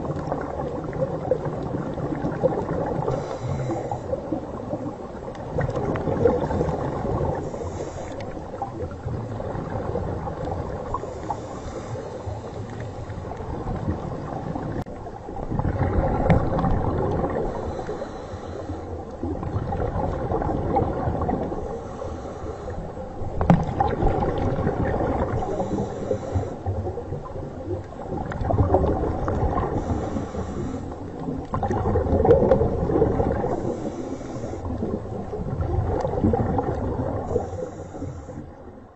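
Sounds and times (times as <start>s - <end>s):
low rumbling gurgling water: 0.0s - 38.9s.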